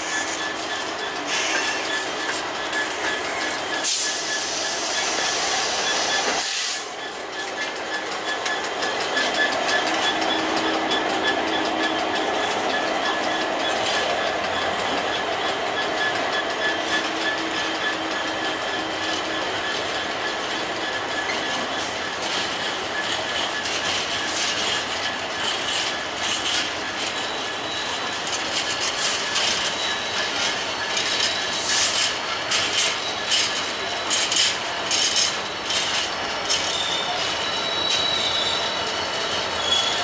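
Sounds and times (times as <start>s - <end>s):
train wheels clicking over rail joints: 0.0s - 40.0s
wheel squeal: 0.0s - 40.0s.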